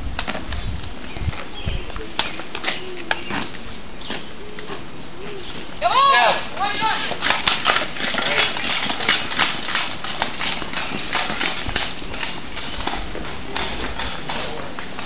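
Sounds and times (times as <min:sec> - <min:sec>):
footsteps on pavement: 0:00.0 - 0:15.0.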